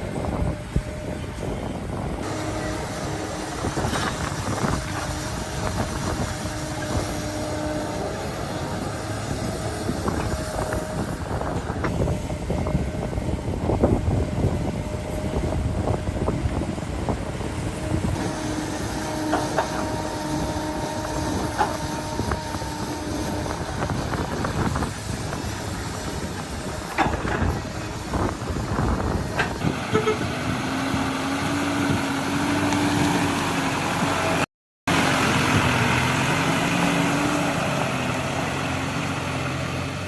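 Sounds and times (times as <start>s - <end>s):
heavy machinery engine whining: 0.0s - 40.0s.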